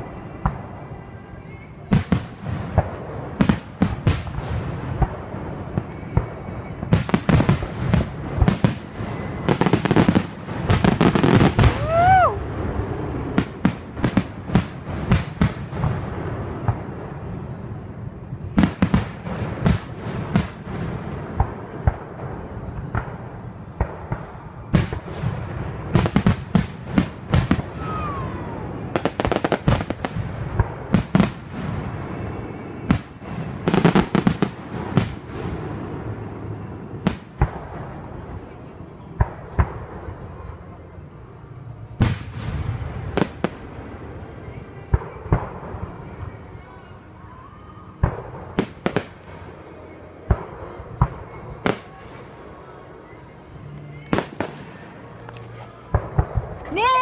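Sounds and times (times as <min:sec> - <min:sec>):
fireworks crackle: 0:00.0 - 0:40.6, 0:41.8 - 0:57.0
fireworks bangs and booms: 0:00.0 - 0:40.9, 0:41.8 - 0:53.2, 0:53.9 - 0:57.0.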